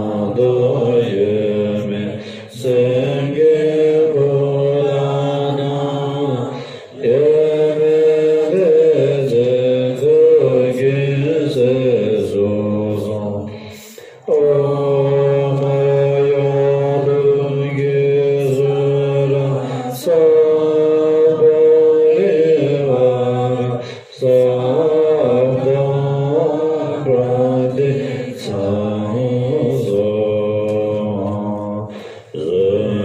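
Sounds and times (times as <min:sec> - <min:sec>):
women chanting prayers: 0:00.0 - 0:33.0.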